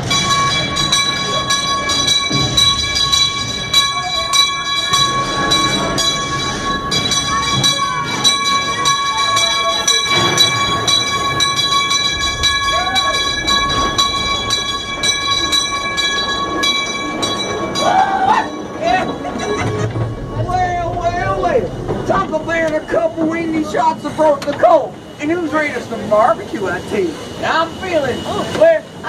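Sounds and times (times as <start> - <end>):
high-pitched ringing tone: 0.0 - 29.0
train cars rolling on track: 0.0 - 29.0
wheels clicking and rattling: 0.0 - 29.0.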